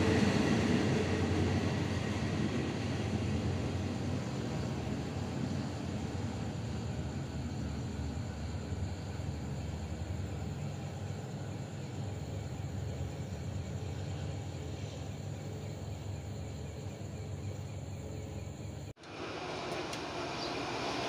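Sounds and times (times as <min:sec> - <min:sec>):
night insects chirring: 0:00.0 - 0:21.0.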